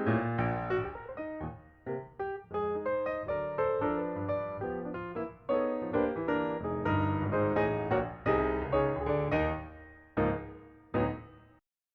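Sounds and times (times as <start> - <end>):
piano chords: 0.0 - 11.6.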